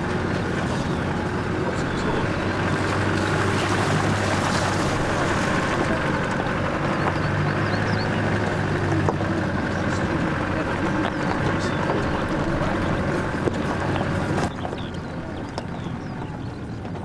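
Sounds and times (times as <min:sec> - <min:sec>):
tyre and wind noise: 0:00.0 - 0:17.0
vehicle engine running: 0:00.0 - 0:17.0.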